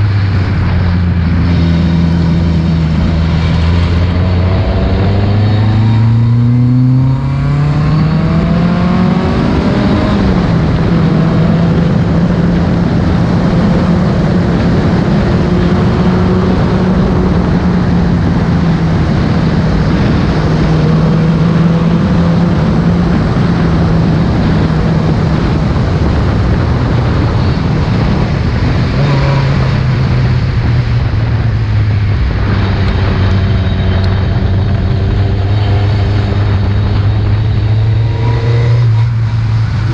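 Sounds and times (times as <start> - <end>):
rally car engine at high revs: 0.0 - 39.9.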